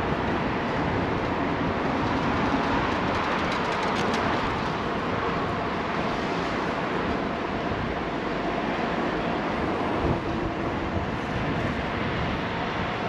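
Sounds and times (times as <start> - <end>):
passing traffic: 0.0 - 13.0
wind over microphone: 0.0 - 13.0.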